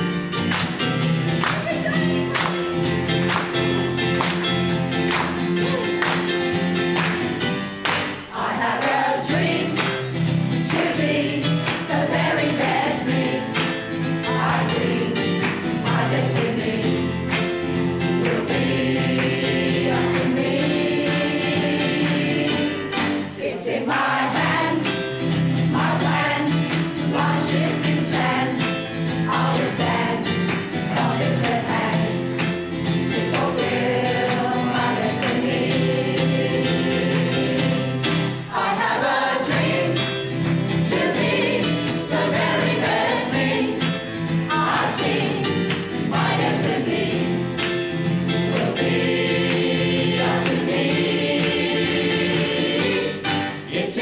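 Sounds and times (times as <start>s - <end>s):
piano accompaniment: 0.0s - 54.0s
choir singing in harmony: 8.2s - 54.0s.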